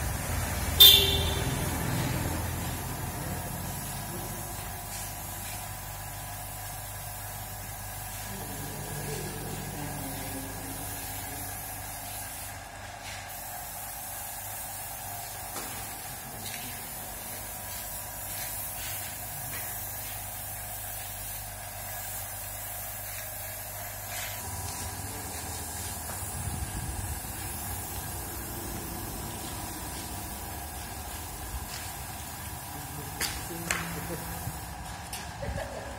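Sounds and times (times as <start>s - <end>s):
spray gun hissing: 0.0s - 35.8s.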